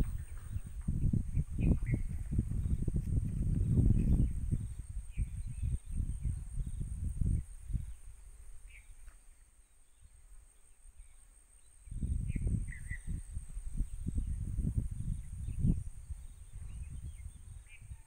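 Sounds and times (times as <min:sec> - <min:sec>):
wind buffeting microphone: 0:00.0 - 0:09.1, 0:11.8 - 0:18.0
high insect drone: 0:00.0 - 0:18.0.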